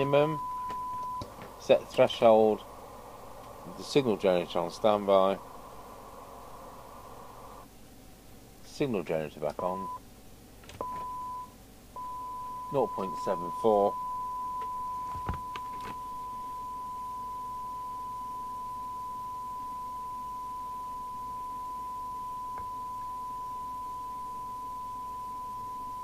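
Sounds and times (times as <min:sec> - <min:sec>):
steady test tone from radio: 0:00.0 - 0:07.7, 0:09.5 - 0:10.0, 0:10.8 - 0:26.0.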